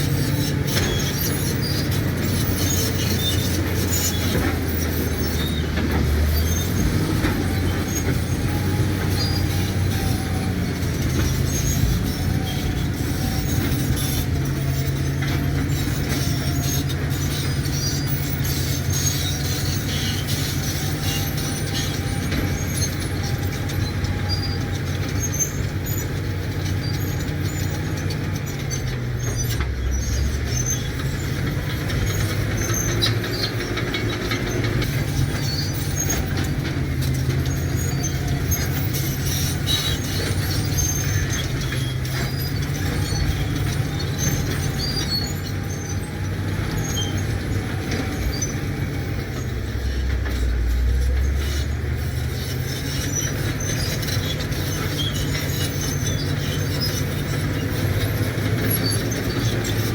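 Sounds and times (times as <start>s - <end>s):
bulldozer diesel engine running: 0.0s - 59.9s
steel tracks clinking and squeaking: 0.0s - 59.9s.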